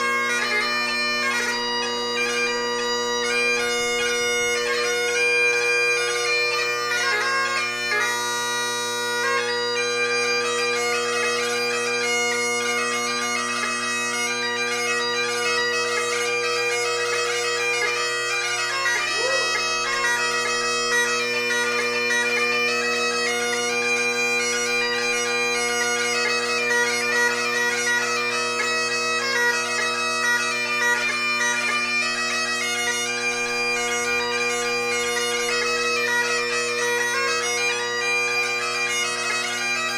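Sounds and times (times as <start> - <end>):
bagpipe playing: 0.0 - 39.9.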